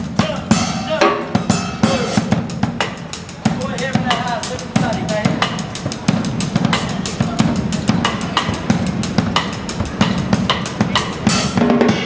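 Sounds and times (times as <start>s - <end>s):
drum kit playing: 0.0s - 12.0s.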